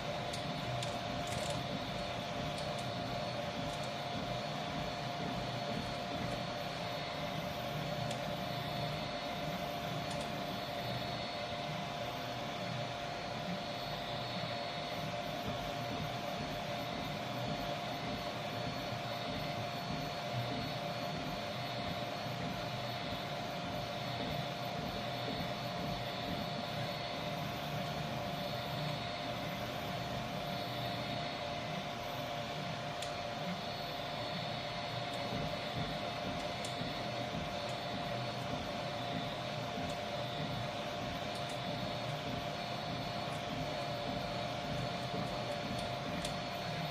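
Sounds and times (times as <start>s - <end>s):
stepper motor whine: 0.0s - 46.9s.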